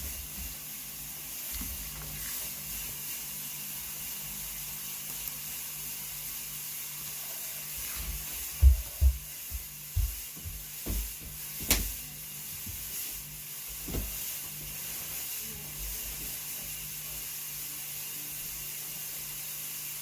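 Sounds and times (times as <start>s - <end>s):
fog machine hissing: 0.0s - 20.0s.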